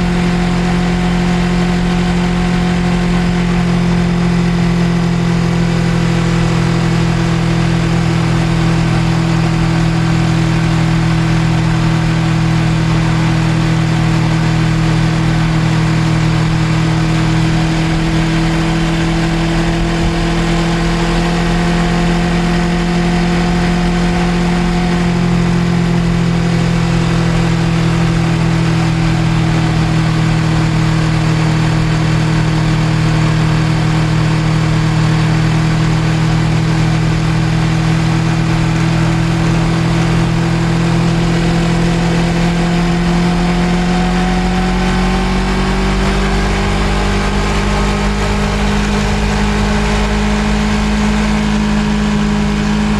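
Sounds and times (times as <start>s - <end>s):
motorcycle engine cruising: 0.0s - 52.9s
riding wind noise: 0.0s - 52.9s.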